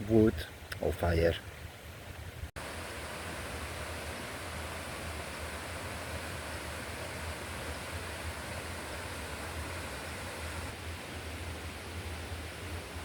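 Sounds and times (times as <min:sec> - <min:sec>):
water rushing: 0:02.6 - 0:13.0.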